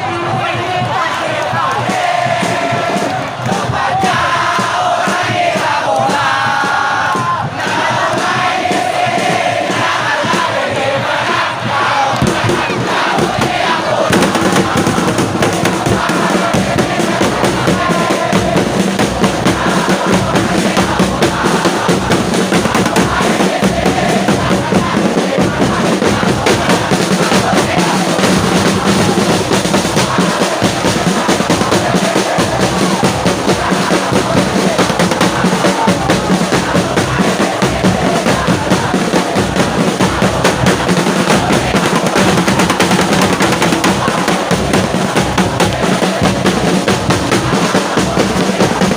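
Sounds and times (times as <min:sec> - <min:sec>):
crowd singing and chanting: 0:00.0 - 0:48.9
drums beating a rhythm: 0:00.0 - 0:48.9.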